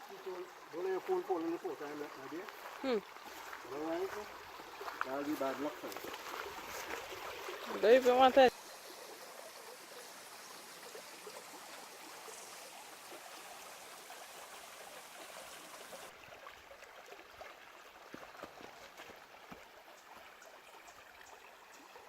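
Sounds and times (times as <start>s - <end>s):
stream flowing: 0.0s - 22.0s.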